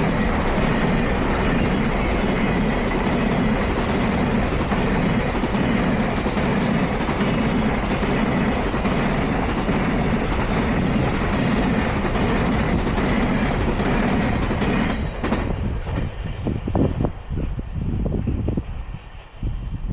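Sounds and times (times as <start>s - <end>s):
gusty noise: 0.0s - 19.9s
train passing over crossing: 0.0s - 19.9s.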